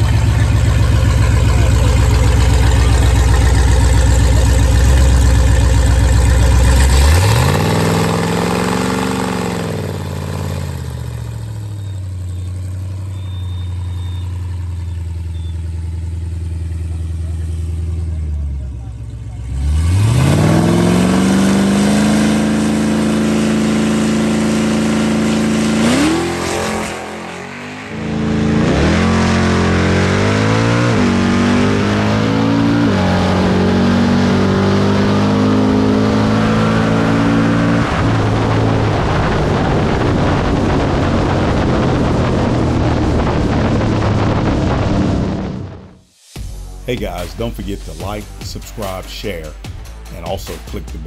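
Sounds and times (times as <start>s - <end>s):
car engine revving and accelerating: 0.0s - 46.1s
wind and road noise: 0.0s - 46.1s.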